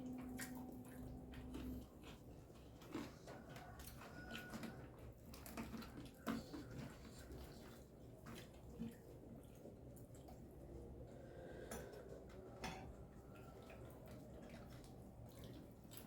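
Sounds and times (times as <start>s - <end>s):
faint water splashing: 0.0s - 16.0s.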